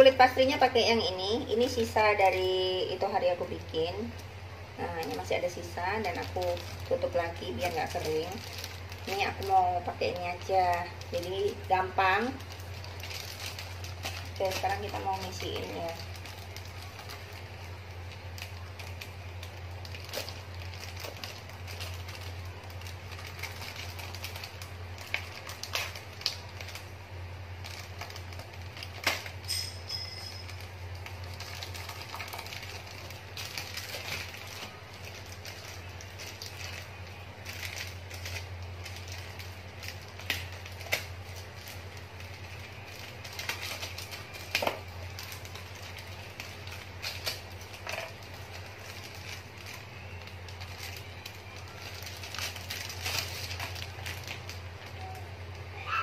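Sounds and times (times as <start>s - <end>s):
plastic packet rustling and clicking: 1.6s - 55.7s.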